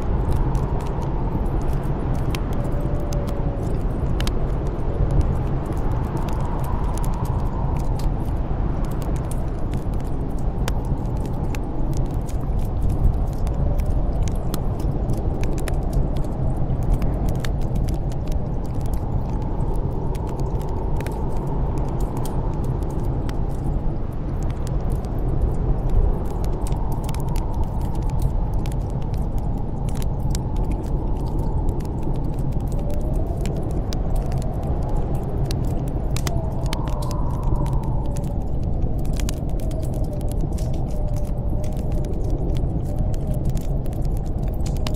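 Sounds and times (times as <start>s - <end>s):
howling storm wind: 0.0s - 44.9s
wood fire crackling and popping: 0.0s - 44.9s.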